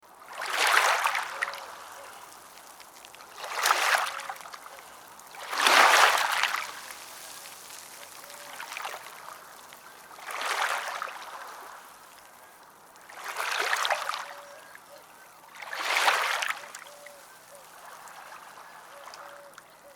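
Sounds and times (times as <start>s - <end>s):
small waves washing ashore: 0.0s - 19.4s.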